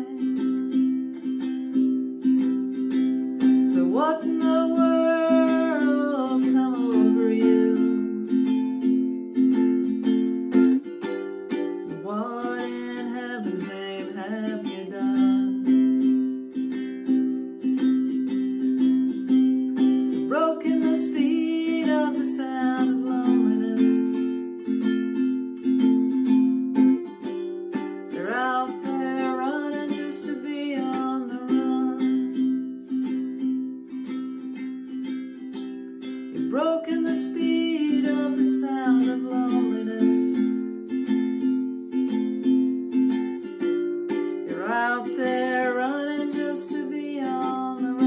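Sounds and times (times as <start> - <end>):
person singing: 0.0 - 34.5, 35.1 - 41.5, 43.0 - 48.0
ukulele strumming chords: 0.0 - 48.0.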